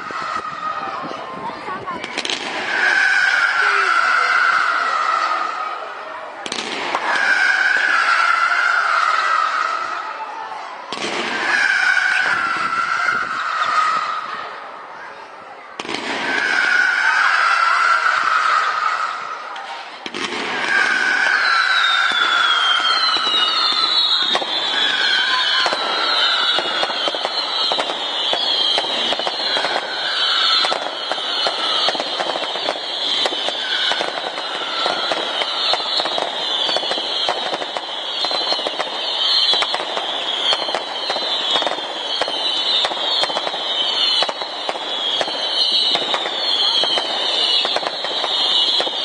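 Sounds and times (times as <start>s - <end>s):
firework whistles: 0.0s - 14.7s, 15.6s - 49.0s
firework crackle: 0.0s - 49.0s.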